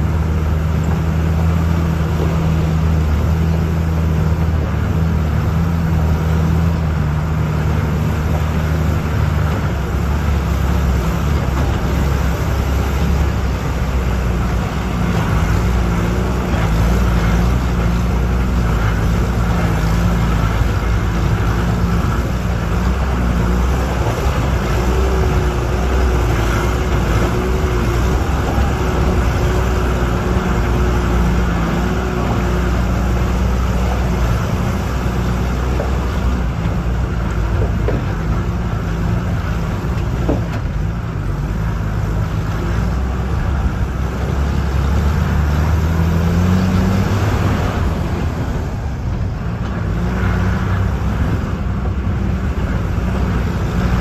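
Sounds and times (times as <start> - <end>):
bus engine drone: 0.0 - 54.0
tyres rumbling on dirt road: 0.0 - 54.0.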